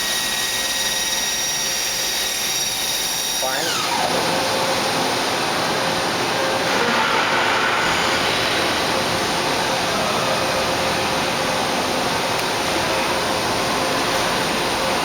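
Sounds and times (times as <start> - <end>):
machine spindle whining: 0.0 - 15.0.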